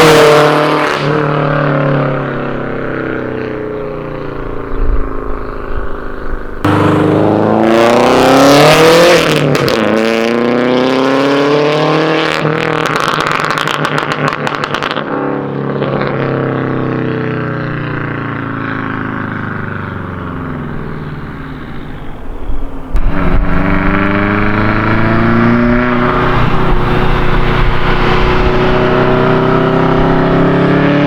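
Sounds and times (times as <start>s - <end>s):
exhaust crackling: 0.0s - 10.6s, 12.4s - 31.0s
car engine revving: 0.0s - 31.0s.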